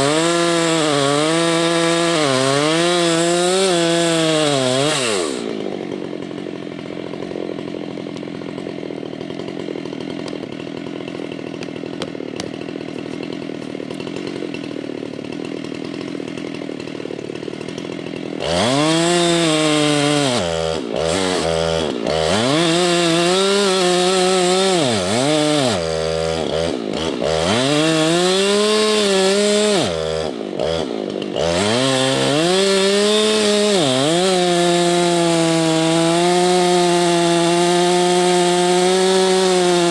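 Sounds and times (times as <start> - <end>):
chainsaw cutting stump: 0.0 - 39.9.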